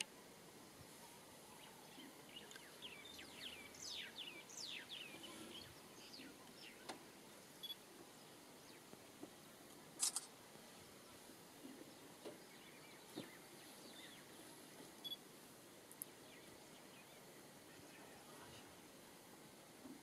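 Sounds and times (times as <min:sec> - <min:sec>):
faint birdsong: 0:00.0 - 0:20.0
low background hiss: 0:00.0 - 0:20.0.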